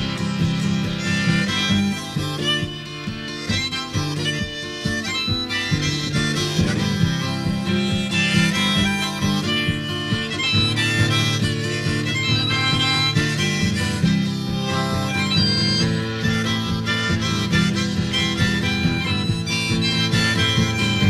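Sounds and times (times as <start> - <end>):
drums: 0.0 - 21.0
guitar: 0.0 - 21.0
harmonica playing lead: 0.0 - 21.0.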